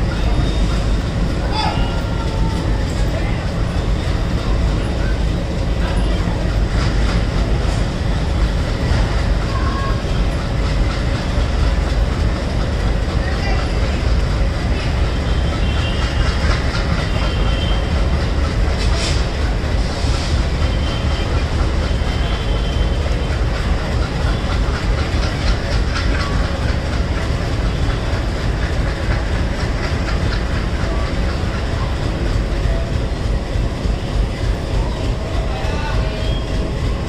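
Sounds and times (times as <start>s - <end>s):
train rumbling past: 0.0s - 37.0s.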